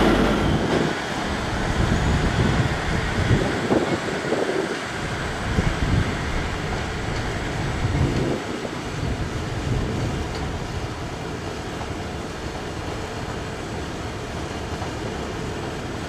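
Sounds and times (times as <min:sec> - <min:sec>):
diesel train rumbling: 0:00.0 - 0:16.0.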